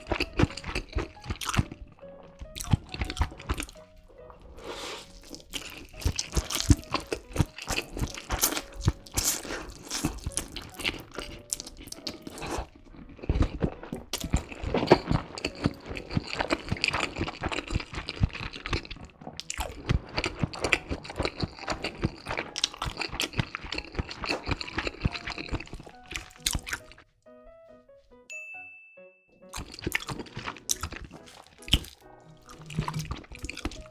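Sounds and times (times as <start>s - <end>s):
crunching crisp fried food: 0.0s - 27.1s, 29.5s - 33.9s.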